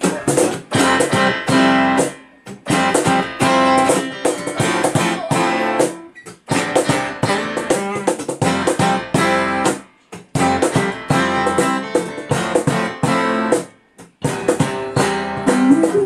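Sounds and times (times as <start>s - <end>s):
acoustic guitar strumming: 0.0s - 16.0s
keyboard chords: 0.0s - 16.0s.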